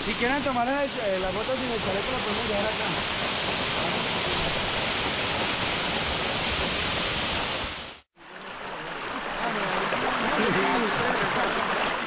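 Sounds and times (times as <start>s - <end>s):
waterfall pouring into pool: 0.1s - 12.0s.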